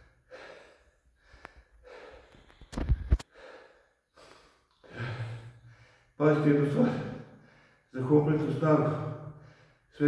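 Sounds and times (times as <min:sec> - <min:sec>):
man breathing hard: 0:00.0 - 0:06.2, 0:06.8 - 0:08.0, 0:09.1 - 0:10.0.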